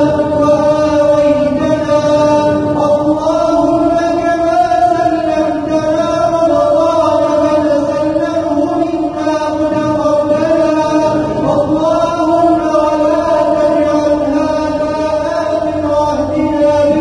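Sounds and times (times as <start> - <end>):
man chanting a prayer: 0.0 - 17.0.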